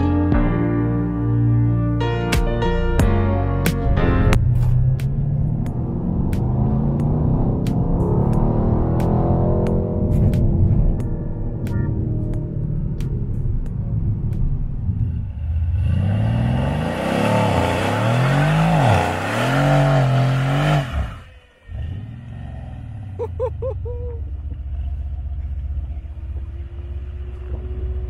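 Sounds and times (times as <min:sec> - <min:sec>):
car engine revving: 0:04.2 - 0:28.0.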